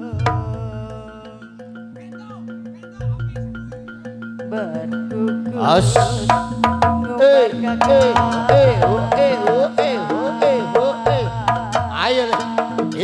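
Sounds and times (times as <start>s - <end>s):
hand drums: 0.0s - 13.0s
wavering melody: 0.0s - 13.0s.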